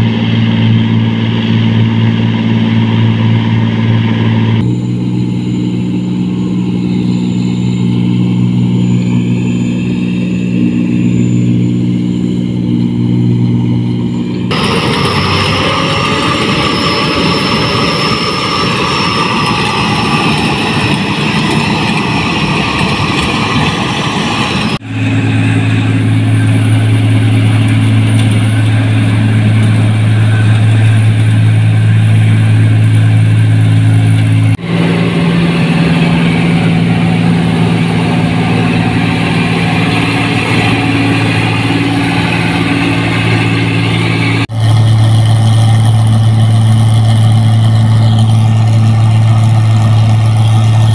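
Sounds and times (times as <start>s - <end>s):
combine harvesters running: 0.0s - 50.9s
low engine hum: 0.0s - 50.9s.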